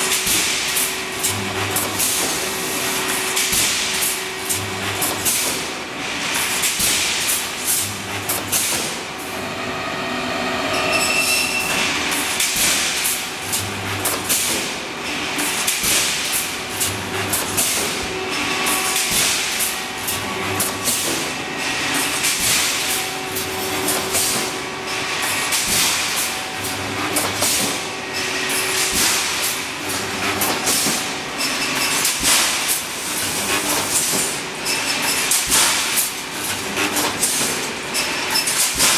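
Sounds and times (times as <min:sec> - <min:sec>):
welding machine metallic clanks: 0:00.0 - 0:09.3, 0:10.7 - 0:38.9.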